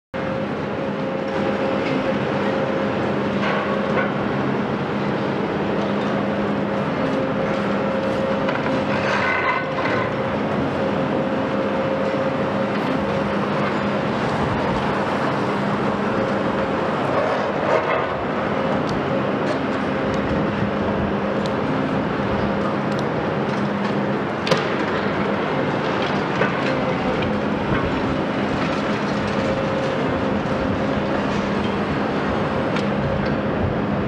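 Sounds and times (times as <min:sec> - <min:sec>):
excavator engine and hydraulics droning: 0:00.2 - 0:34.0.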